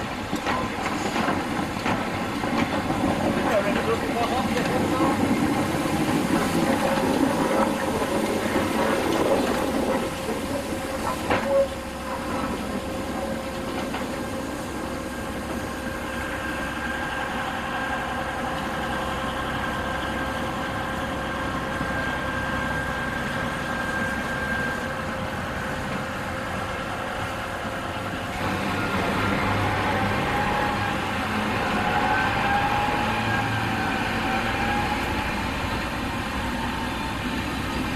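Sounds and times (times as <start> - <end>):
diesel locomotive engine idling: 0.0 - 37.9.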